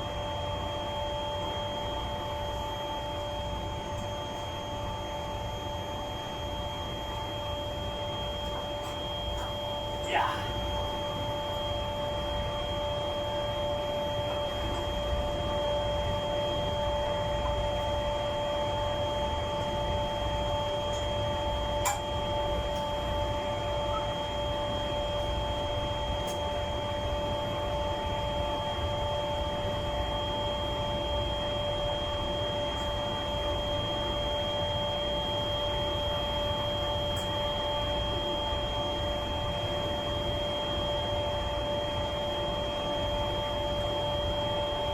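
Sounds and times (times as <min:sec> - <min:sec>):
machinery hum and whine: 0:00.0 - 0:44.9.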